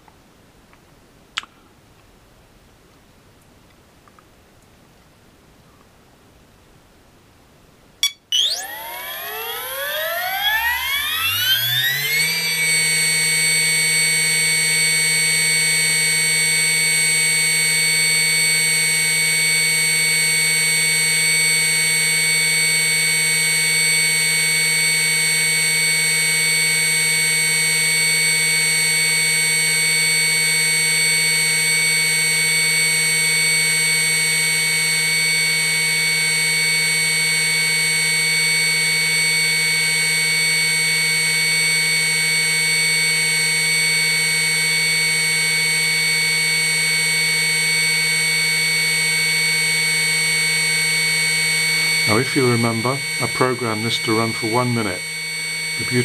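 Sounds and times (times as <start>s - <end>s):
electric motor whine: 8.4s - 56.0s.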